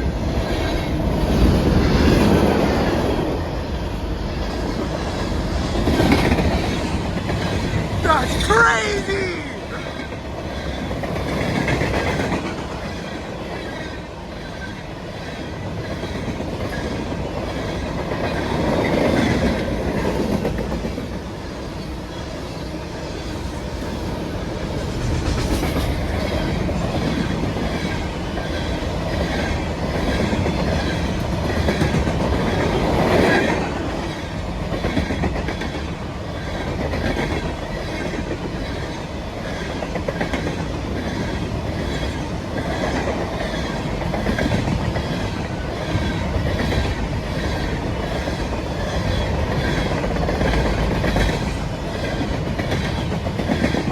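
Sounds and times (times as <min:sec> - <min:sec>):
freight train rumble: 0:00.0 - 0:53.9.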